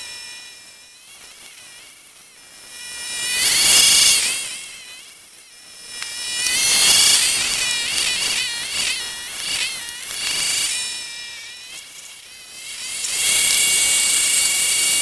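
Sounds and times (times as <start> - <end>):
snowblower engine whine: 0.0 - 15.0.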